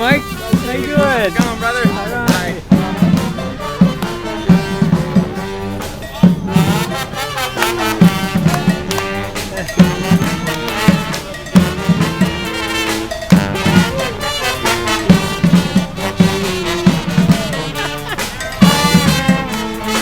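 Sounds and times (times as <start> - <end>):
saxophones: 0.0 - 20.0
steady drum beat: 0.0 - 20.0
trombones: 0.0 - 20.0
trumpets: 0.0 - 20.0.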